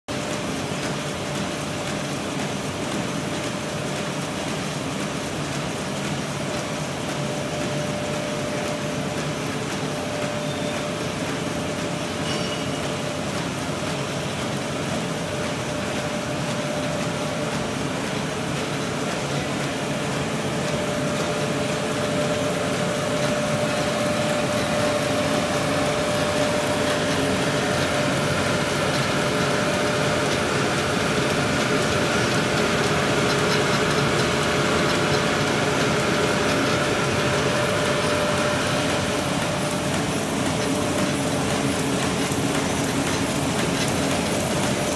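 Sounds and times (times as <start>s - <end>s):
paper bag machine humming: 0.1s - 44.9s.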